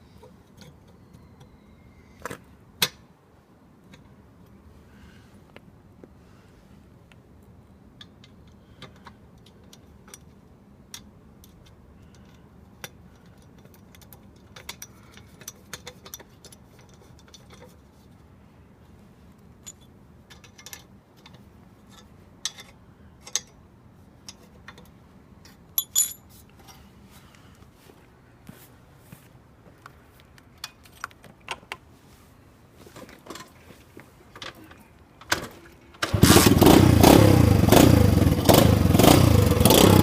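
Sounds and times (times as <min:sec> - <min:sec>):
faint steady hum: 0:00.0 - 0:36.2.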